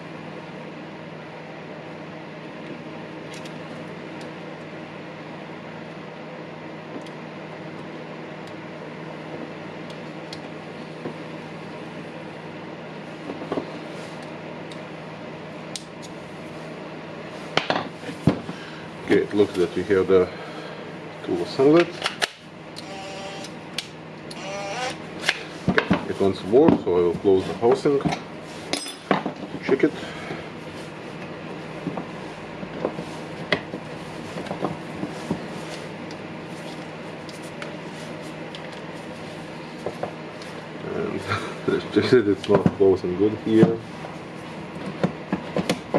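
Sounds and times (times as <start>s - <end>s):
mechanical fan hum: 0.0s - 45.9s.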